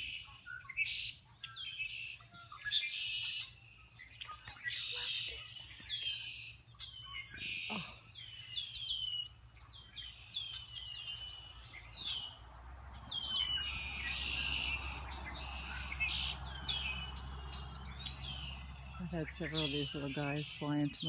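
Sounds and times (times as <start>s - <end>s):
chickadees calling: 0.0s - 21.0s.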